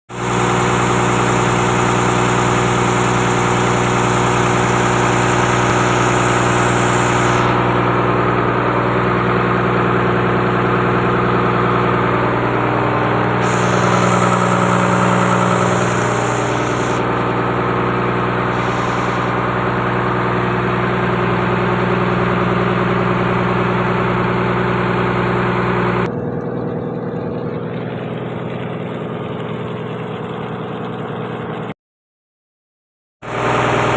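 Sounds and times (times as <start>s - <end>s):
freezer machine engine humming: 0.1s - 31.6s, 33.2s - 33.9s.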